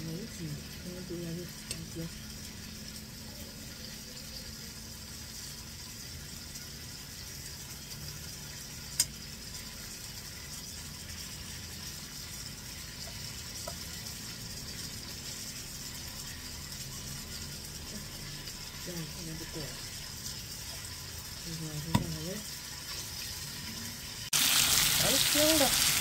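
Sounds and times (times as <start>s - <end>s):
chicken sizzling in oil: 0.0s - 26.0s.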